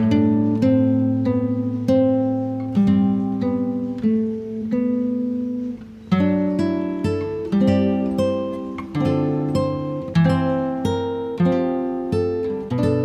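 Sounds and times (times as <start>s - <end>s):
acoustic guitar plucked chords: 0.0s - 13.0s.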